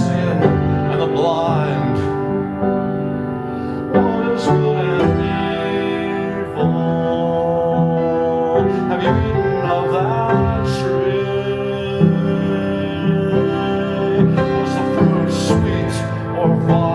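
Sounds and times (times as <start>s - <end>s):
person singing: 0.0s - 16.9s.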